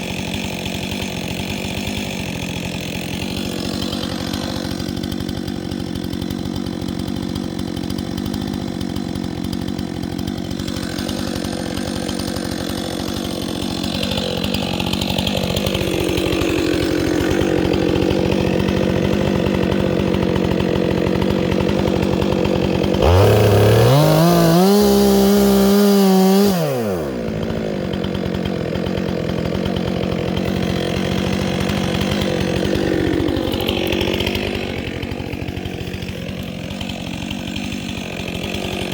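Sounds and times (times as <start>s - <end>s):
chainsaw engine at high revs: 0.0s - 38.9s.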